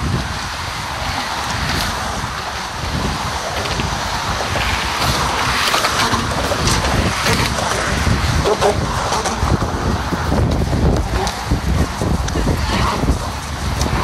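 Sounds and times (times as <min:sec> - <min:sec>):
traffic rushing past: 0:00.0 - 0:14.0
wind buffeting microphone: 0:00.0 - 0:14.0.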